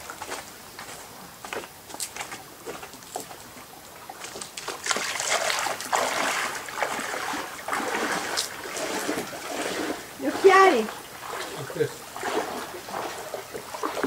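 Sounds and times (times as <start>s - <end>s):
water splashing and sloshing: 0.0s - 14.0s
water drips: 2.1s - 14.0s.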